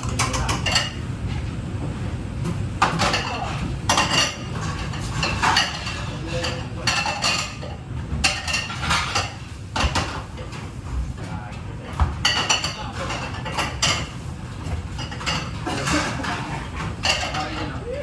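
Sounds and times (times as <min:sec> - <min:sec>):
crockery and utensils clattering: 0:00.0 - 0:01.0, 0:02.8 - 0:10.7, 0:11.9 - 0:17.8.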